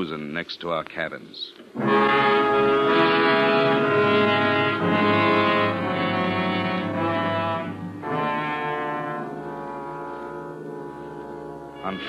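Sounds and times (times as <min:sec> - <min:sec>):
orchestral brass chords: 0:01.8 - 0:12.0.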